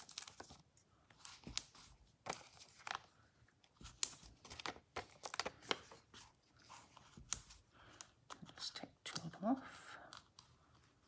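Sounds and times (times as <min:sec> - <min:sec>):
paper rustling and crinkling: 0:00.0 - 0:09.5.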